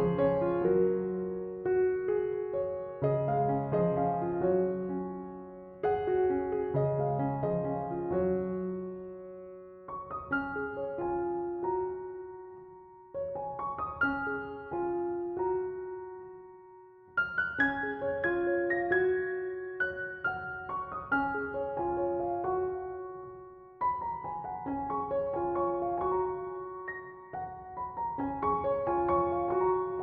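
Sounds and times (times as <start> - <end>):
gentle piano melody: 0.0 - 30.0.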